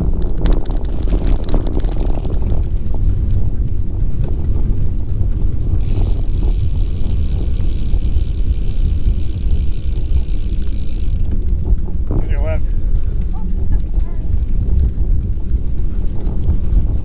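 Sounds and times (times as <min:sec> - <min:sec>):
bicycle tyre noise: 0:00.0 - 0:17.0
wind rumbling on microphone: 0:00.0 - 0:17.0.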